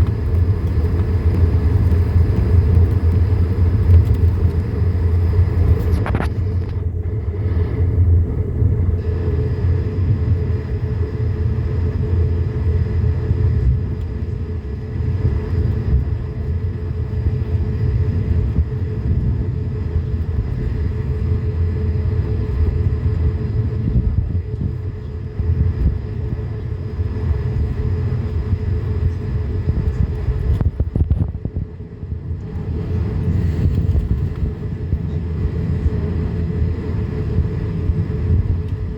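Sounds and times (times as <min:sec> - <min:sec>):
faint steady whine: 0:00.0 - 0:38.9
jet engines low rumble: 0:00.0 - 0:38.9.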